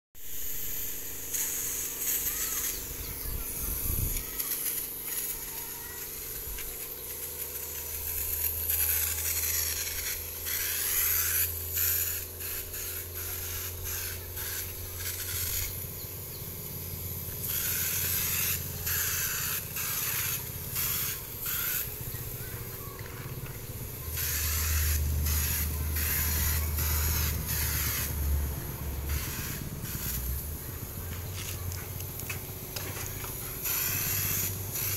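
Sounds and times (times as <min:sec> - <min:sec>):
paint spray gun hissing: 0:00.2 - 0:34.9.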